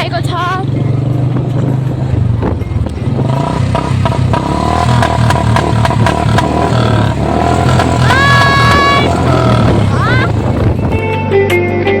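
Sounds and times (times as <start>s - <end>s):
motorcycle engine running: 0.0s - 11.2s
exhaust cracks: 1.3s - 11.1s.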